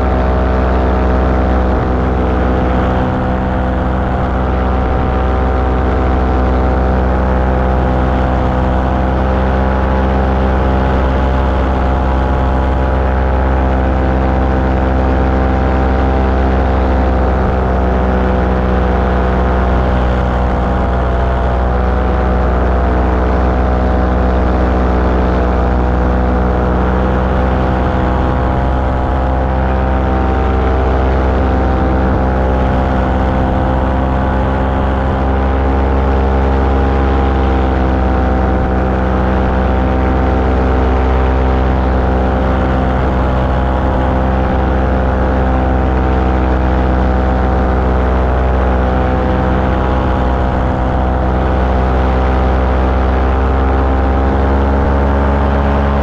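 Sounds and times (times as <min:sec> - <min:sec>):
small aircraft engine running: 0:00.0 - 0:56.0.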